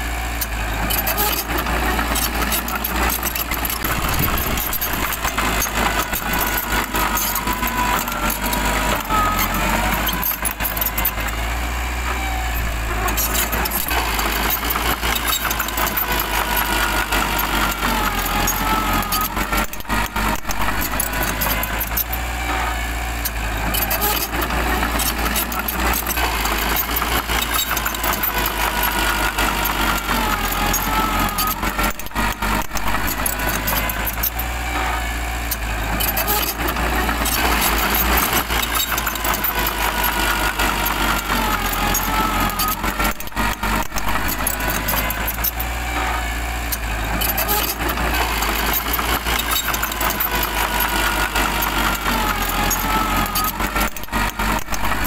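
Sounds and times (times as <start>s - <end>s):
bulldozer diesel engine running: 0.0s - 55.0s
blade pushing soil: 0.2s - 55.0s.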